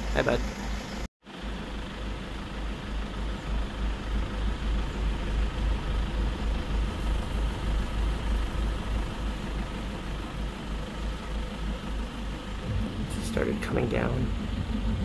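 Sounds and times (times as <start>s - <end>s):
engine idling: 0.0s - 15.0s
faint steady hum: 0.2s - 15.0s.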